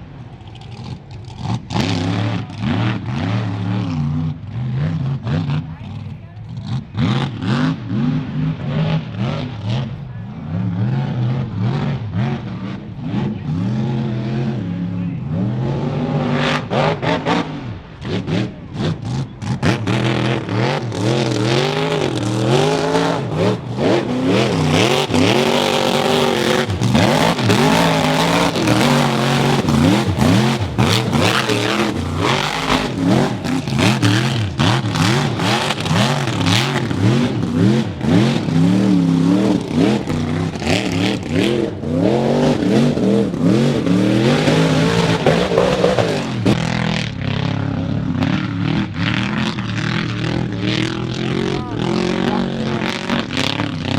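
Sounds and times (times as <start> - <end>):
truck engine revving hard: 0.0 - 53.9.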